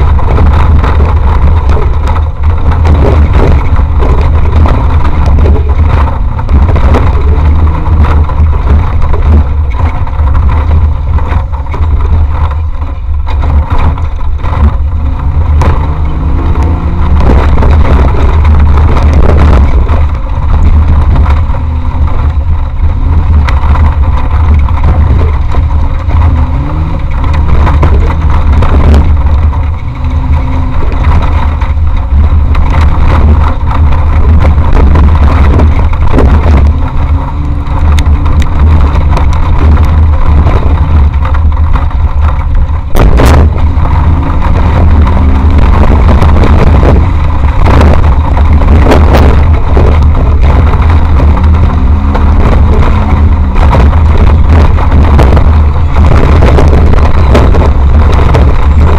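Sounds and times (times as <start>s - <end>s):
engine rumbling and revving: 0.0s - 58.9s.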